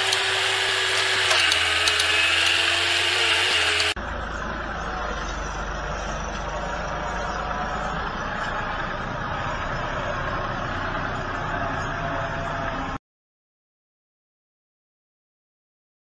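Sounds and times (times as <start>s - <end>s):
tractor engine under heavy load: 0.0s - 13.0s.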